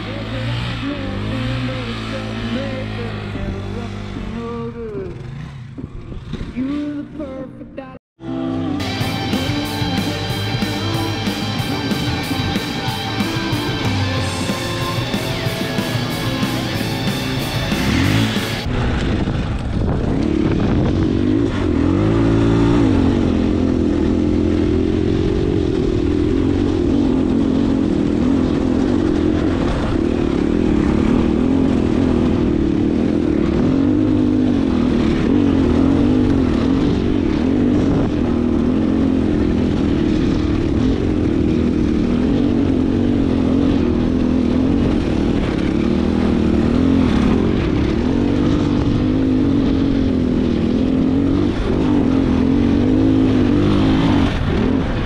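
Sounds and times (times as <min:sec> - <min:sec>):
dirt bike engine revving: 0:00.0 - 0:07.0, 0:08.7 - 0:55.0.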